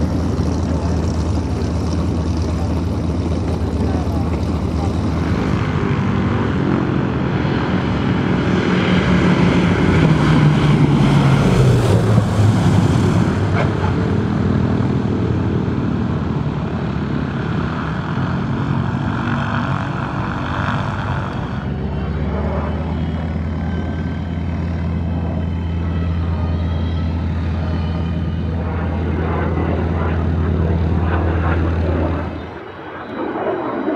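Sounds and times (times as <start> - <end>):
propeller plane engines droning: 0.0 - 33.9.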